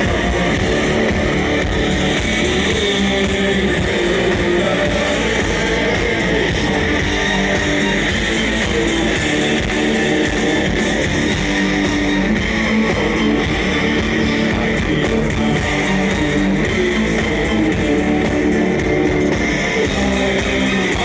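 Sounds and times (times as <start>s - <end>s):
rock band with distorted guitars: 0.0s - 21.0s.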